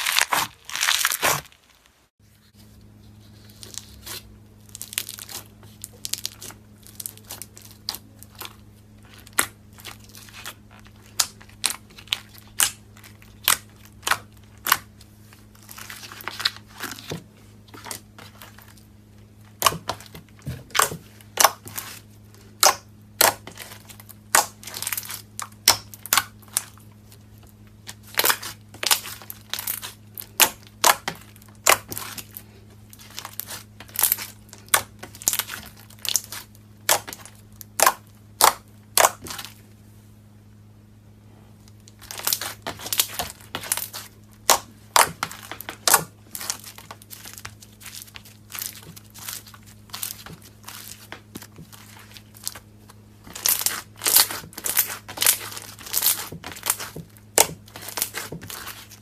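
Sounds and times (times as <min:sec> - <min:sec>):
slime popping and crackling: 0:00.0 - 0:01.9, 0:03.6 - 0:17.1, 0:19.5 - 0:26.9, 0:27.8 - 0:39.6, 0:41.8 - 0:59.0
faint low electrical hum: 0:00.0 - 0:59.0.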